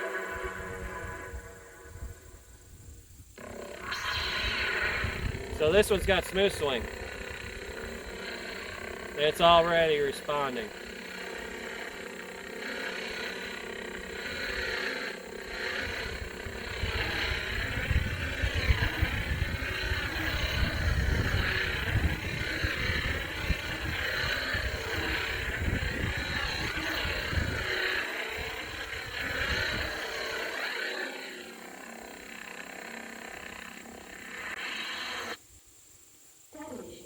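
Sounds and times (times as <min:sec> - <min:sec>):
lightsaber blade hum: 0:00.0 - 0:35.4.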